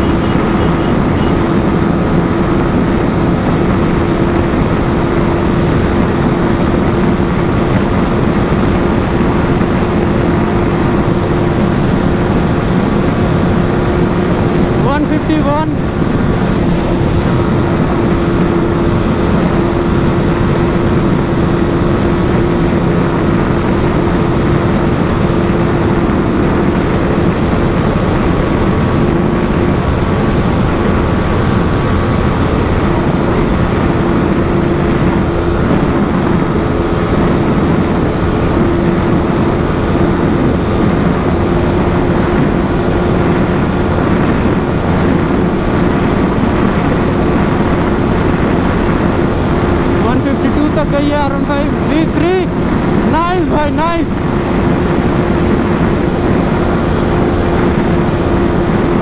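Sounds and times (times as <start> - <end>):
motorcycle engine at high revs: 0.0 - 59.0
wind noise on microphone: 0.0 - 59.0.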